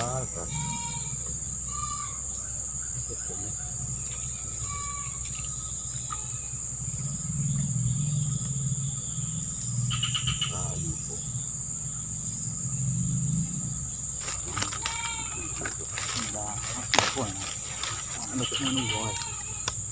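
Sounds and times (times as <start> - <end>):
chirping call: 0.0 - 12.9, 13.8 - 19.8
insects droning: 0.0 - 19.9.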